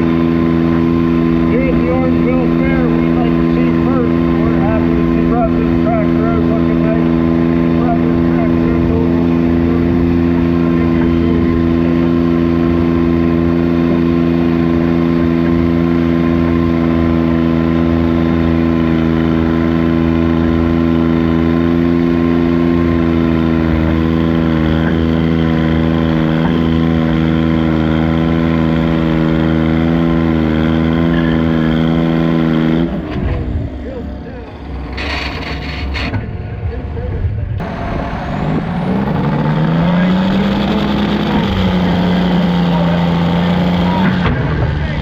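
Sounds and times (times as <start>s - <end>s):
diesel tractor engine running hard: 0.0s - 45.0s.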